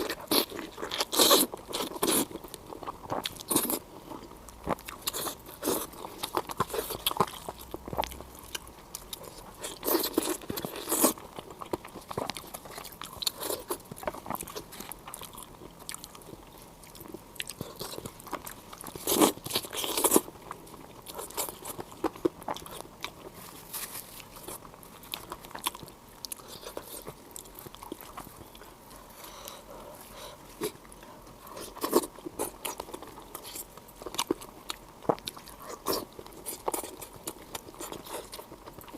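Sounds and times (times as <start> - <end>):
person biting and crunching food: 0.0 - 28.7, 30.5 - 38.9.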